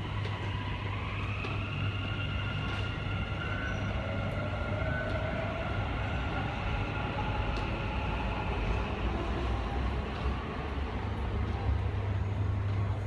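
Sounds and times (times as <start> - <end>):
train electric drive whining: 0.0 - 13.0.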